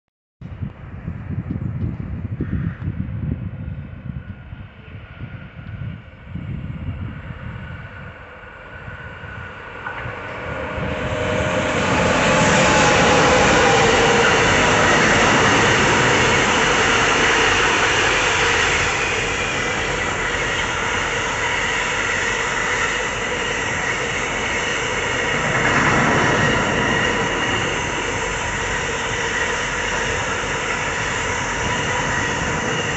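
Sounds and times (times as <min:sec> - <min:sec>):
freight train wheels on track: 0:01.3 - 0:32.9.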